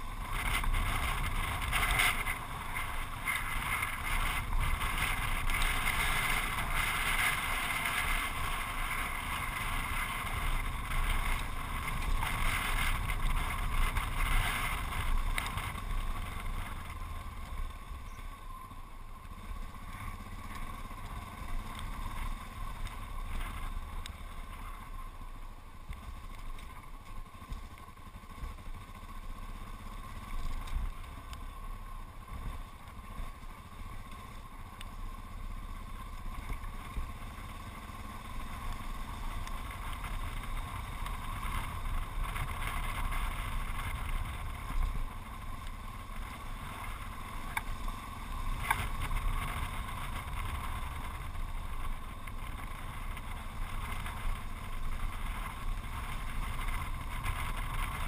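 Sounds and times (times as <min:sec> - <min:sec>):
motorcycle engine running: 0:00.0 - 0:58.0
wind and road rumble: 0:00.0 - 0:58.0.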